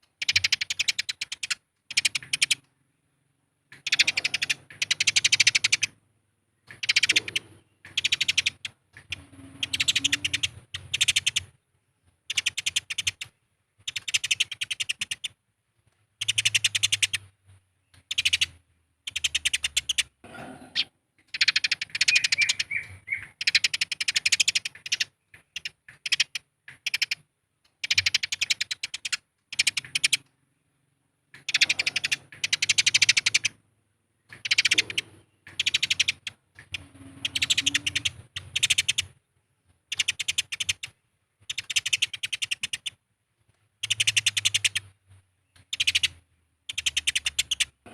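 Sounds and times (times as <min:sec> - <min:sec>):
sparrows chattering: 0:00.0 - 0:06.0, 0:06.6 - 0:11.6, 0:12.2 - 0:15.4, 0:16.2 - 0:33.6, 0:34.2 - 0:43.0, 0:43.8 - 0:47.9.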